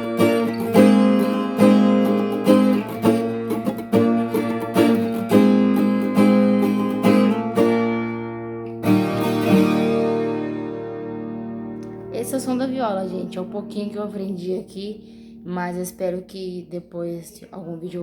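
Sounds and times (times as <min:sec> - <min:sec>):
folk guitar strummed: 0:00.0 - 0:15.8.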